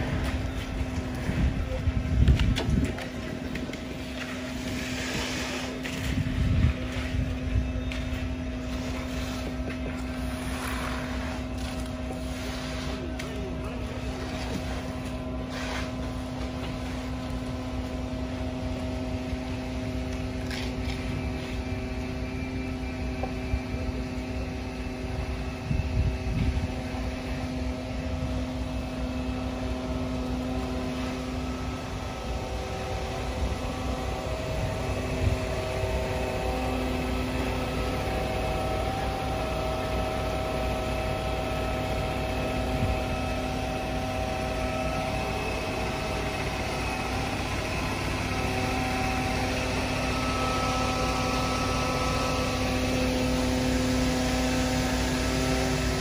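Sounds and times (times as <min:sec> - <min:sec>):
mixer truck engine hum: 0:00.0 - 0:56.0.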